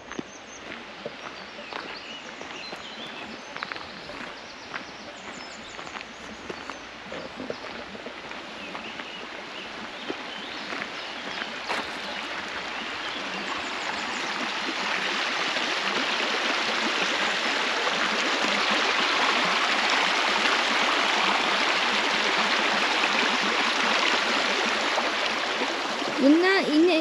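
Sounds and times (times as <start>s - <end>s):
mountain stream rushing: 0.0s - 27.0s.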